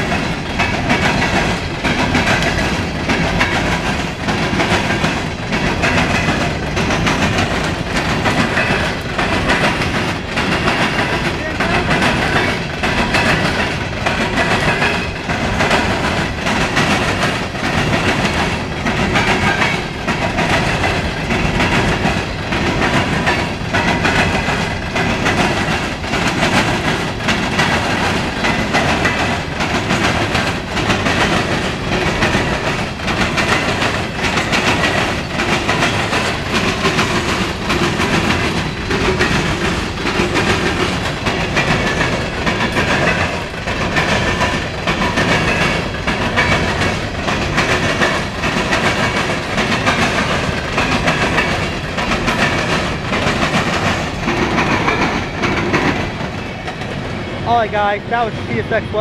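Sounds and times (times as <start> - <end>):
train wheel rumble: 0.0 - 59.0
wheels clacking on rail joints: 0.0 - 59.0.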